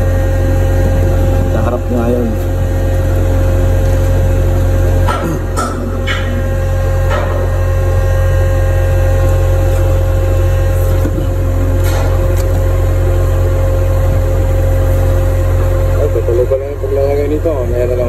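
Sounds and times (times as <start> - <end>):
heavy machinery humming: 0.0 - 18.0.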